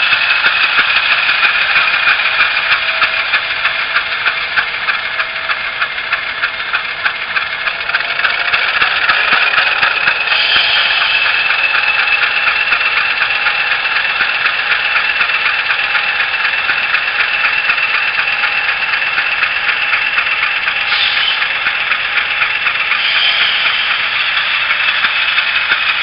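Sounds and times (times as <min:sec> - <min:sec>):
diesel engine through small speaker: 0:00.0 - 0:26.0.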